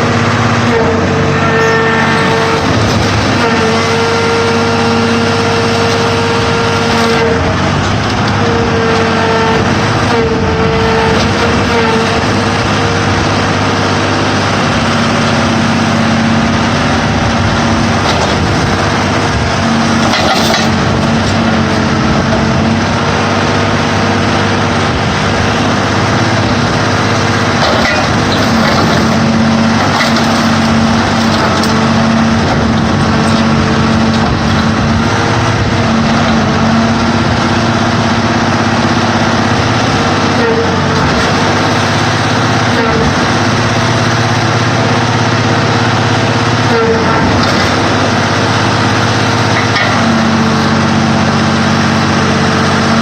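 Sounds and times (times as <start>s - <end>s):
car baler engine running: 0.0s - 53.0s.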